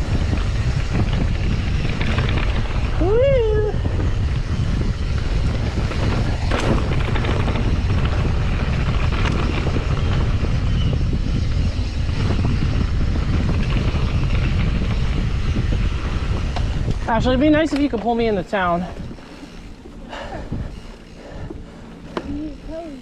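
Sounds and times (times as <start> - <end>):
bike clack: 0.0 - 23.0
bike clicks and rattles: 0.0 - 23.0
wind buffeting microphone: 0.0 - 23.0.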